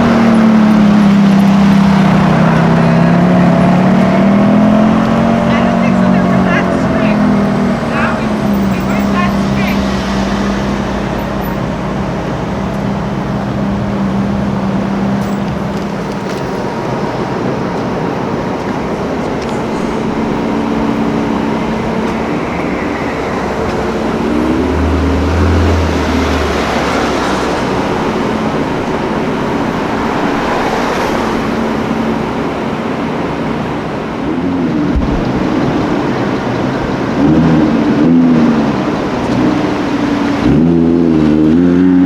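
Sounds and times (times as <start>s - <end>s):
car engines in traffic: 0.0s - 42.0s
deep engine note: 0.0s - 42.0s
engines revving: 0.0s - 42.0s.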